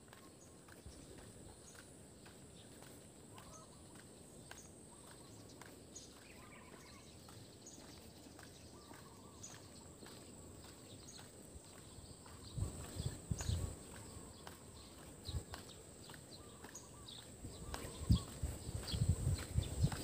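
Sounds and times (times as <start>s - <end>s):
faint footsteps on pavement: 0.0s - 20.0s
soft bird chirps: 0.0s - 20.0s.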